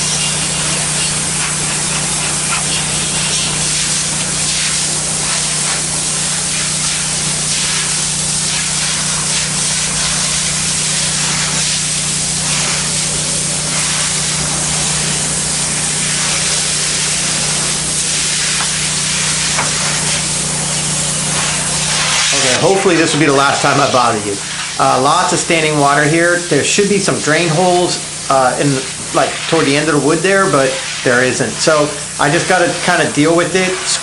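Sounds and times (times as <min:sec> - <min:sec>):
pressure washer spray hiss: 0:00.0 - 0:34.0.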